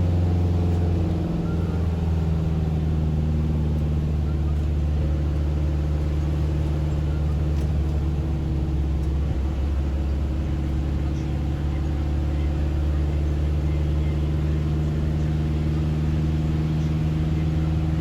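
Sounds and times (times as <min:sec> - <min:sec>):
car engine and tyre hum: 0:00.0 - 0:18.0.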